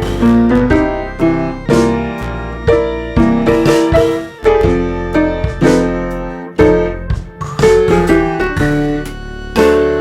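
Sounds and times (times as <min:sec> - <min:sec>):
piano notes and chords: 0:00.0 - 0:10.0
steady bass: 0:00.0 - 0:10.0.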